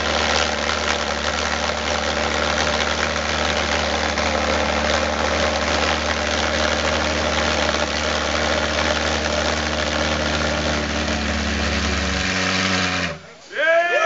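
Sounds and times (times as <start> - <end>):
pulse jet engine drone: 0.0 - 13.3.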